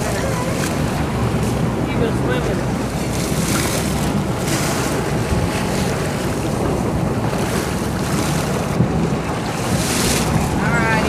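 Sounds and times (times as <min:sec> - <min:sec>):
boat engine rumble: 0:00.0 - 0:11.0
water washing along hull: 0:00.0 - 0:11.0
wind gusting across microphone: 0:00.0 - 0:11.0.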